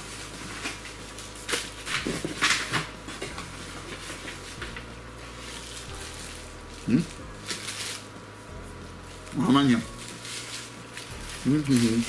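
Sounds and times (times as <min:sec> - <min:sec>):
bubble wrap rustling and crackling: 0:00.0 - 0:12.0.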